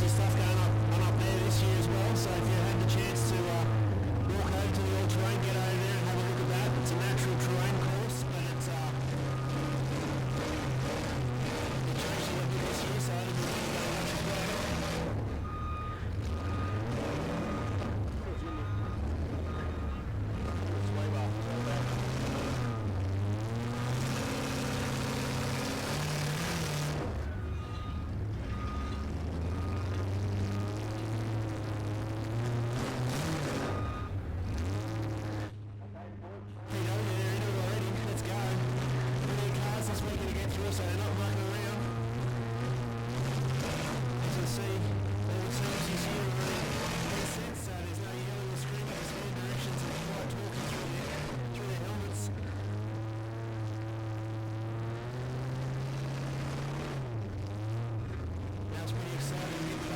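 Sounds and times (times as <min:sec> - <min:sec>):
truck engine revving: 0:00.0 - 0:35.8, 0:36.7 - 0:59.9.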